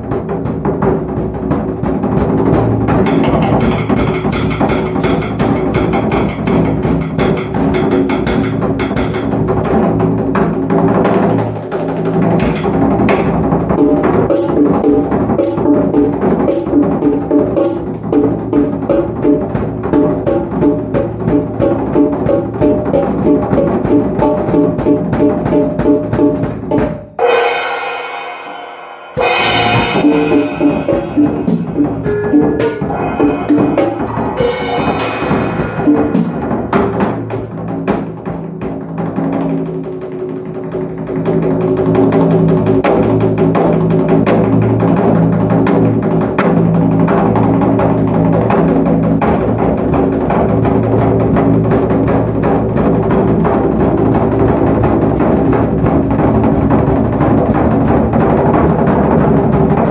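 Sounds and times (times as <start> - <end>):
drum kit playing fast rhythm: 0.0 - 41.6, 45.2 - 59.9.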